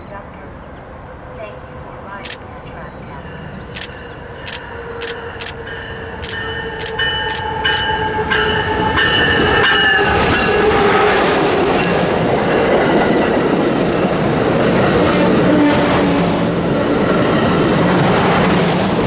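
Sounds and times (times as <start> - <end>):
train cars rumbling past: 0.0 - 19.0.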